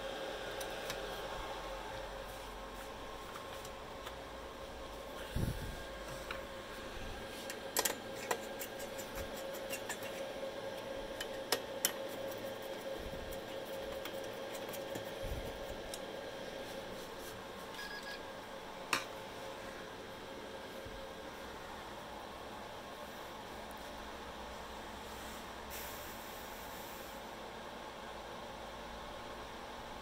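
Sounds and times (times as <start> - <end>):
computer fans humming: 0.0 - 30.0.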